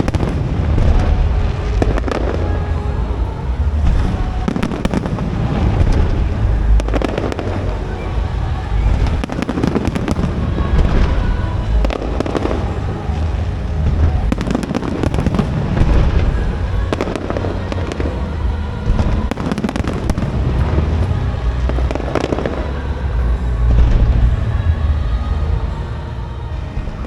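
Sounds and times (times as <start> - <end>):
deep booming rumble: 0.0 - 27.0
fireworks bangs and crackles: 0.0 - 27.0.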